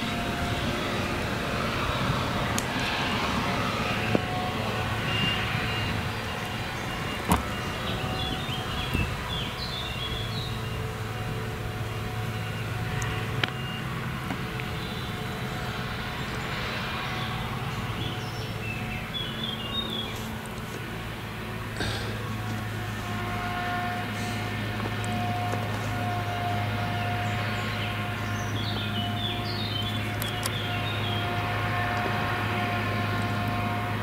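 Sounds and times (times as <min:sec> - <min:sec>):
forage harvester droning: 0:00.0 - 0:34.0
tractor working: 0:00.0 - 0:34.0.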